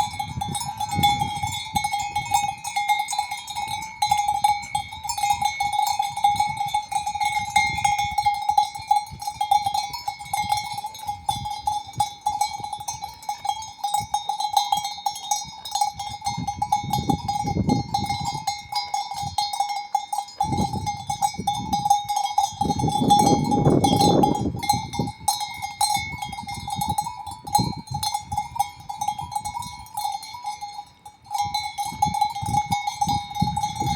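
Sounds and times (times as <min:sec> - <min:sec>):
cowbells clanking and ringing: 0:00.0 - 0:33.9.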